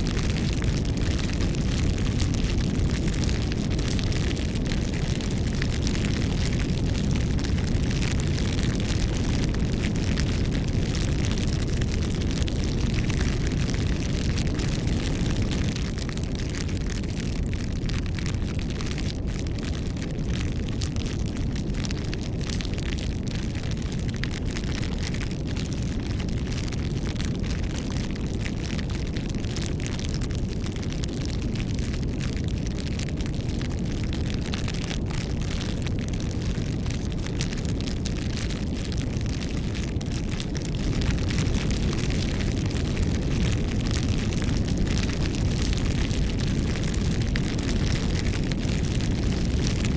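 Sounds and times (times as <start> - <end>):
bonfire flame rumble: 0.0 - 49.9
fire crackling and popping: 0.0 - 49.9.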